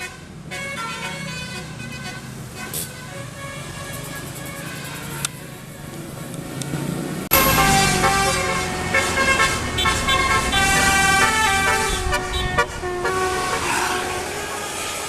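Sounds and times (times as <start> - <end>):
bus melody horn: 0.0 - 5.9, 6.6 - 15.0.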